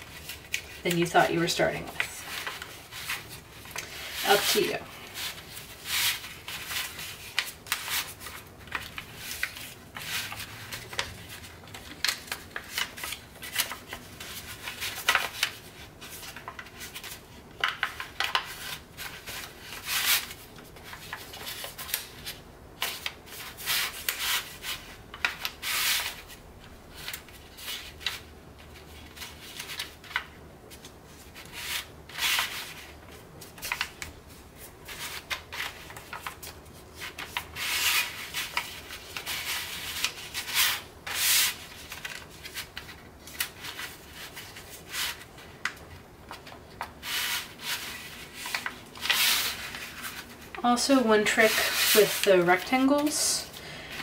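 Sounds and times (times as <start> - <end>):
paper rustling and crinkling: 0.0 - 54.0.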